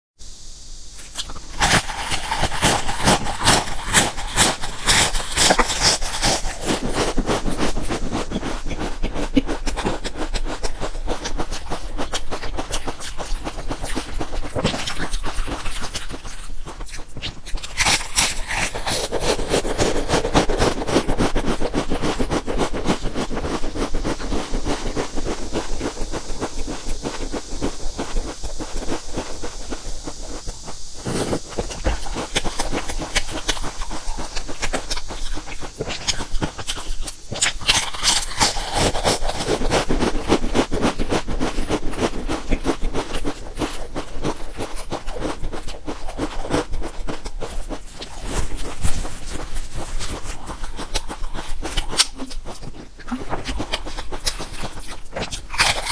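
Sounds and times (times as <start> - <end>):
crisps crunching being chewed: 1.0 - 55.9.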